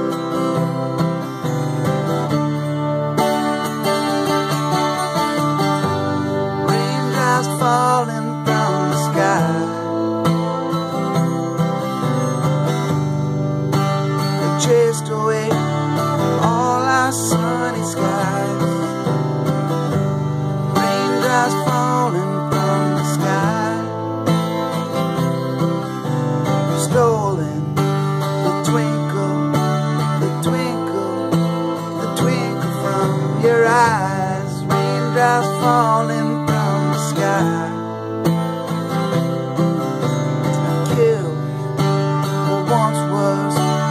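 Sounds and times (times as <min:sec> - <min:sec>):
acoustic guitar strummed: 0:00.0 - 0:43.9
man singing: 0:03.8 - 0:11.2, 0:14.1 - 0:19.6, 0:20.6 - 0:38.4, 0:39.2 - 0:43.9.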